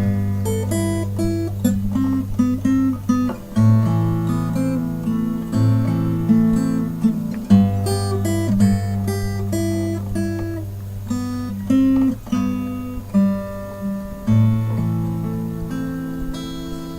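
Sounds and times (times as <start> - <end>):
acoustic guitar music: 0.0 - 16.9.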